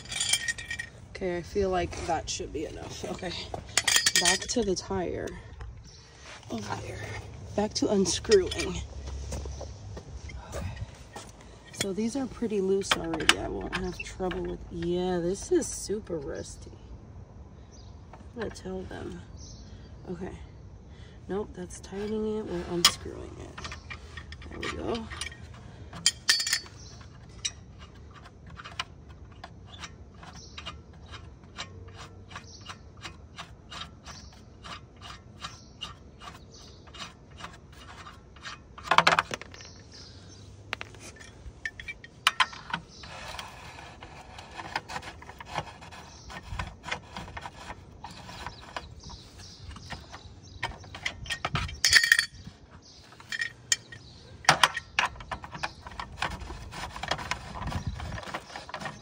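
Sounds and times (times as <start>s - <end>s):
lug wrench clanking on wheel: 0.0s - 16.6s, 21.8s - 59.0s.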